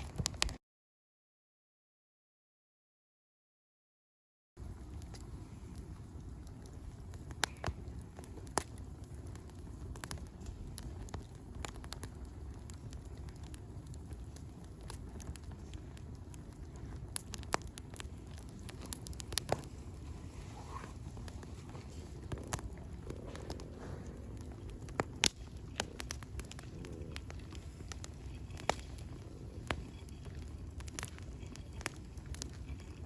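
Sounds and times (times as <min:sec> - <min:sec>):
campfire rushing: 0:00.0 - 0:00.6, 0:04.6 - 0:33.0
fire crackles and pops: 0:00.0 - 0:00.6, 0:04.6 - 0:33.0.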